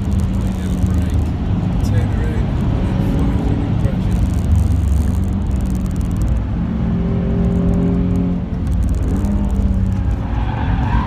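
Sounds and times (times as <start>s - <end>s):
car engine pulling: 0.0s - 11.0s
road and tyre rumble: 0.0s - 11.0s.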